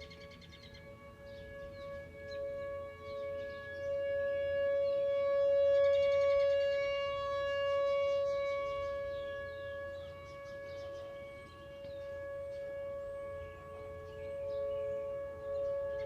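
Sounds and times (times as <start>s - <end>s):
birds chirping: 0.0s - 7.4s, 8.1s - 16.0s
warning siren steady tone: 0.0s - 16.0s.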